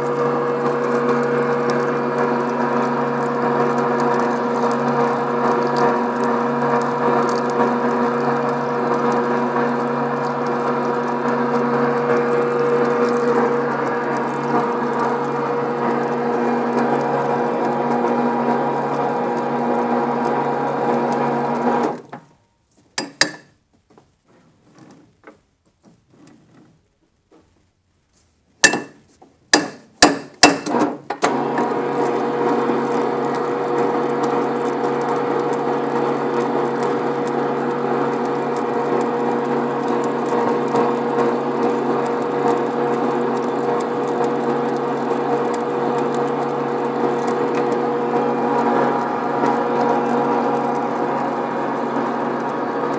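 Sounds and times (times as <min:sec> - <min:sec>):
pipe-threading machine running: 0:00.0 - 0:22.2, 0:30.1 - 0:52.9.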